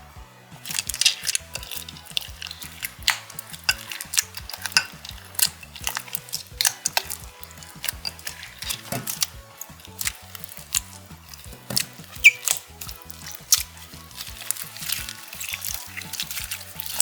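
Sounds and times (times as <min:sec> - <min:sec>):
soft background music: 0:00.0 - 0:17.0
slime squishing and popping: 0:00.6 - 0:17.0.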